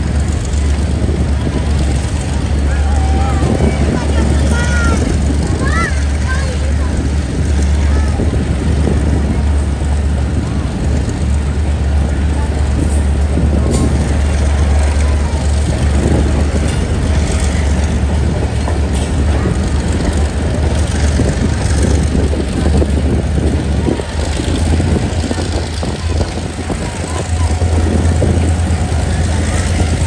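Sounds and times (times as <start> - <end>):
train engine drone: 0.0 - 30.0
wheels rumbling on rail: 0.0 - 30.0.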